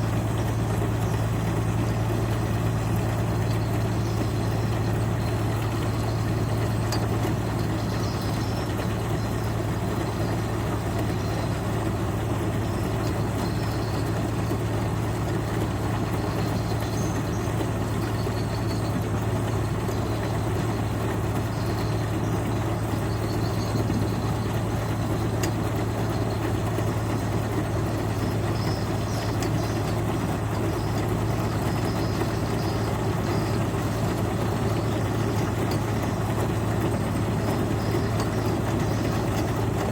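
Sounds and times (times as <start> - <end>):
machine engine humming: 0.0 - 39.9.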